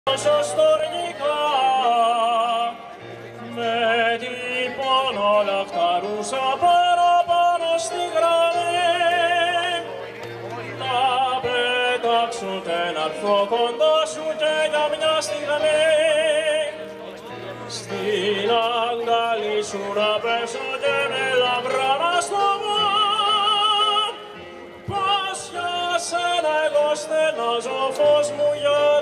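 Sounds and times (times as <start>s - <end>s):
keyboard accompaniment: 0.1s - 29.0s.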